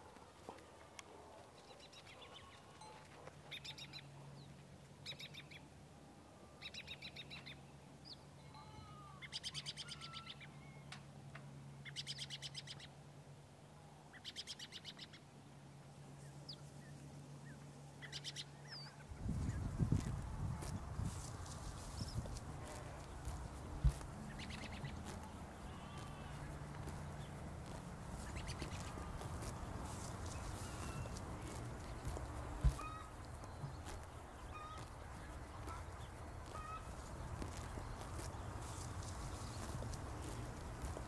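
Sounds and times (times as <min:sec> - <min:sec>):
songbird singing: 0:01.6 - 0:05.7, 0:06.3 - 0:11.1, 0:11.8 - 0:13.0, 0:14.1 - 0:15.4, 0:16.1 - 0:41.0.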